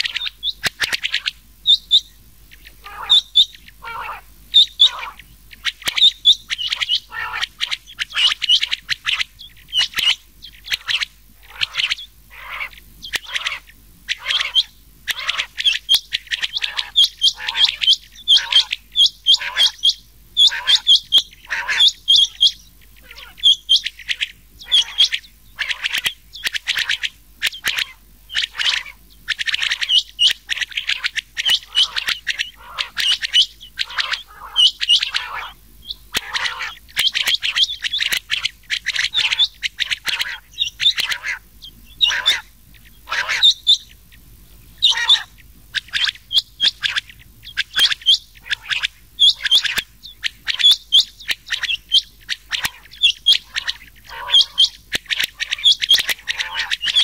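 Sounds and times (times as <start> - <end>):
quail calls: 0.0 - 57.0.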